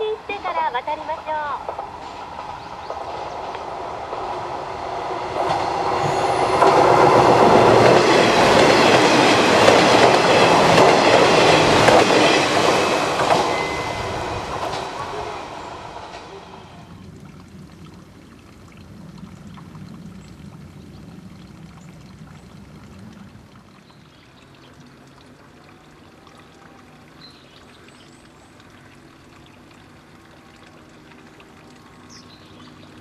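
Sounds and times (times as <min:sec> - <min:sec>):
water trickling: 0:00.0 - 0:33.0.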